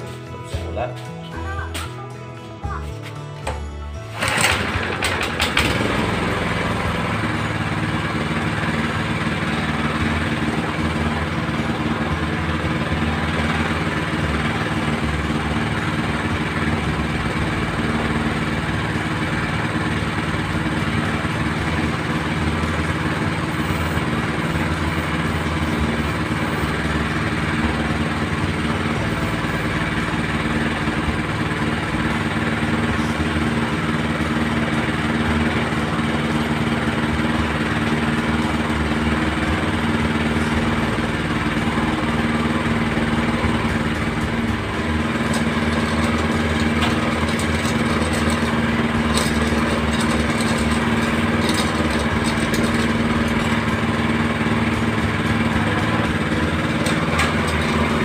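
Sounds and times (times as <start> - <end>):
small petrol engine running: 2.6 - 58.0.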